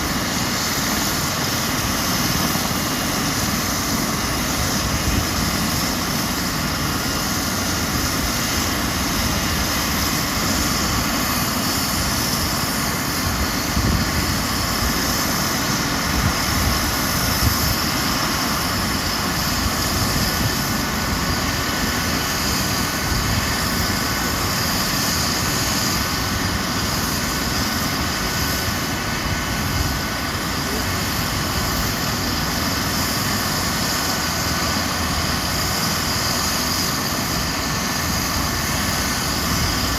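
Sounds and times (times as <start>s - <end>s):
helicopter rotor roar: 0.0s - 39.9s
high turbine whine: 0.0s - 39.9s.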